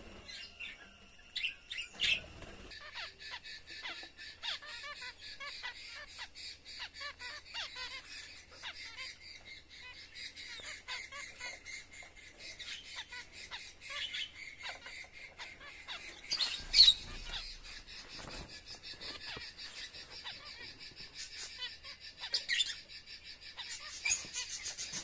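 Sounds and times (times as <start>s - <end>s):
finches chirping: 0.0s - 25.0s.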